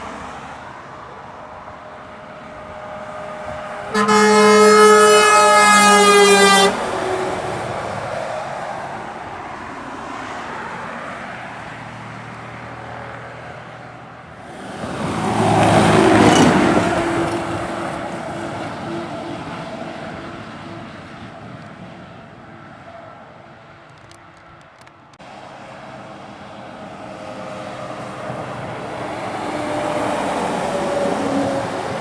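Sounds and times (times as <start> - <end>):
vehicle passing close: 2.6 - 32.0.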